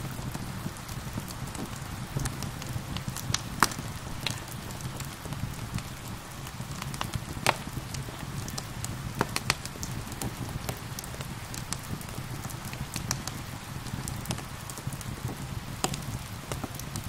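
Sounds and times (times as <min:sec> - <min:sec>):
fire crackling and popping: 0:00.0 - 0:17.0
steady rain: 0:00.0 - 0:17.0.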